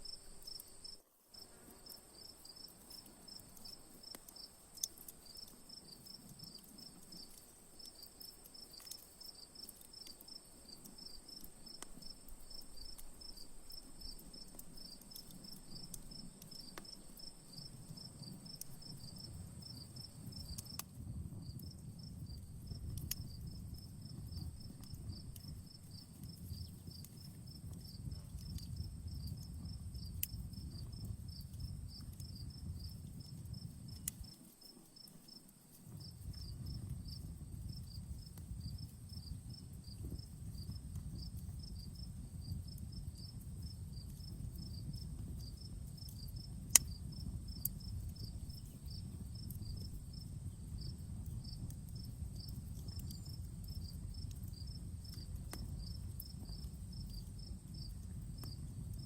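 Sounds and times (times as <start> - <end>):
campfire crackling: 0.0 - 59.0
crickets chirping: 0.0 - 59.0.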